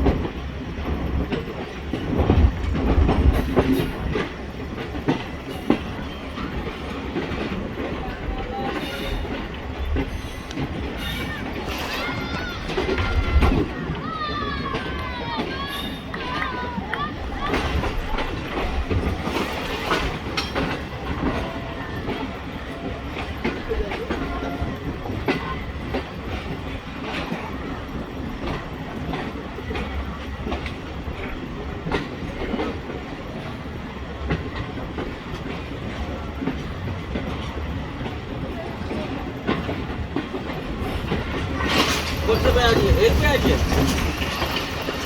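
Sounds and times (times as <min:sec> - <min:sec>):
train rumble: 0:00.0 - 0:45.0
train wheels clacking over rail joints: 0:00.0 - 0:45.0.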